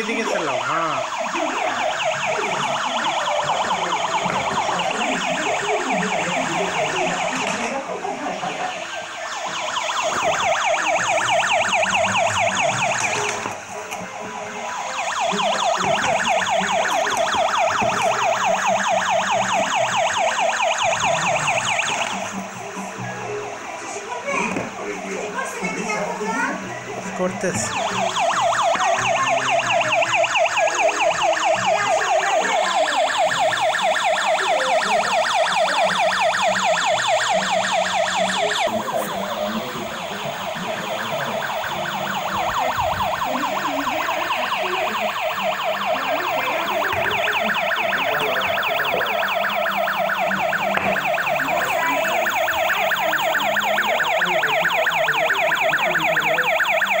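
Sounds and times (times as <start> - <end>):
toy police siren warbling: 0.0 - 57.0.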